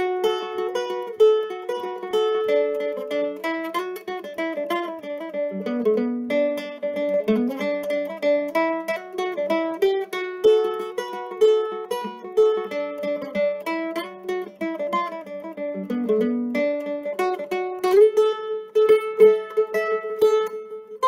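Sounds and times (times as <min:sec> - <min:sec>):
mandolin picked melody: 0:00.0 - 0:21.0.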